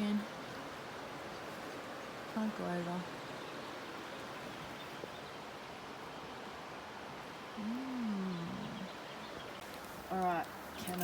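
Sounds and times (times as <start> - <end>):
light rain: 0.0 - 11.0.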